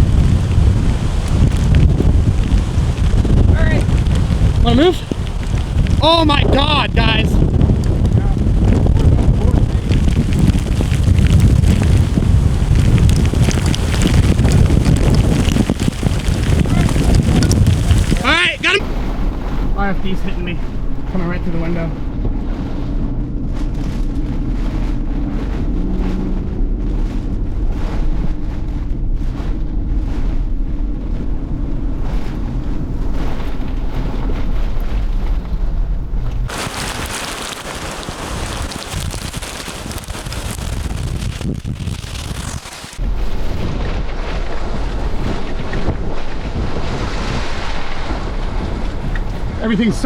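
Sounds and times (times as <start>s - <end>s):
wind and rain buffeting microphone: 0.0s - 50.0s.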